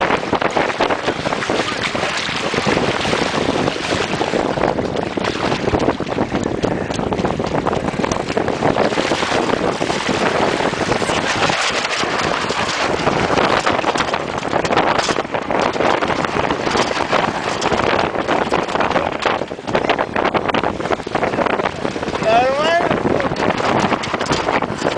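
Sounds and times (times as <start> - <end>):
water rushing aboard boat: 0.0 - 24.9
wind noise on microphone: 0.0 - 24.9.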